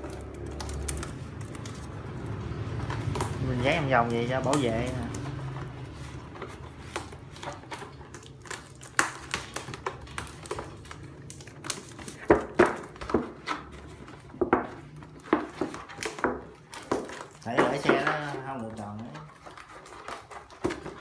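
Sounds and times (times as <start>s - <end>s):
packing tape peeling from plastic pot: 0.0s - 21.0s.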